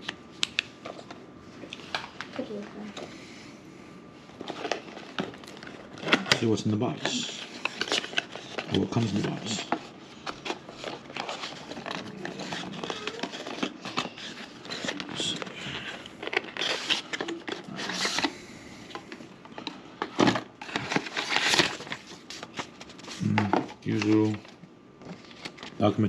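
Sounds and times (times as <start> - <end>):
paper and plastic crinkling: 4.3 - 26.0.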